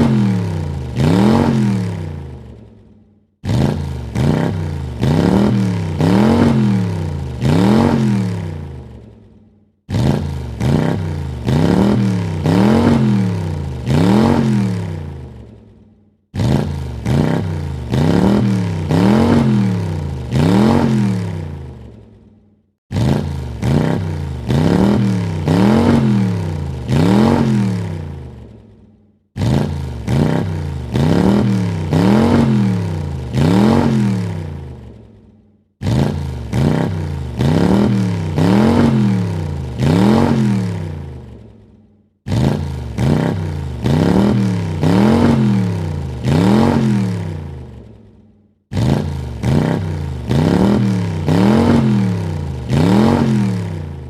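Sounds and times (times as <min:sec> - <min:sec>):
car engine revving: 0:00.0 - 0:02.6, 0:03.4 - 0:09.1, 0:09.9 - 0:15.6, 0:16.3 - 0:22.1, 0:22.9 - 0:28.6, 0:29.4 - 0:35.0, 0:35.8 - 0:41.6, 0:42.3 - 0:47.9, 0:48.7 - 0:54.0.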